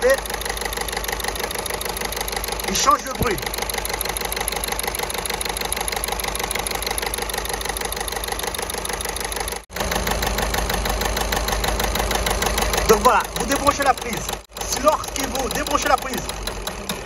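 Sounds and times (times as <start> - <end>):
diesel engine idling clatter: 0.0 - 17.0.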